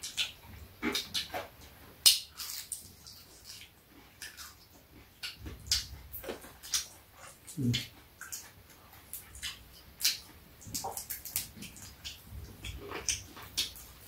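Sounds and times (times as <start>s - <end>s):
crunching fried chicken: 0.0s - 14.0s
lip smacks: 0.0s - 14.0s
soft chewing clicks: 0.0s - 14.0s.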